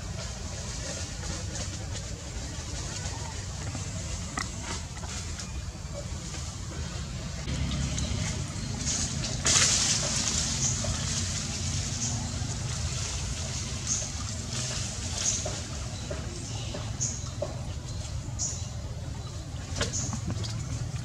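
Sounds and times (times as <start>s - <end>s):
hissing rustling noises: 0.0s - 21.0s
steady low rumble: 0.0s - 21.0s.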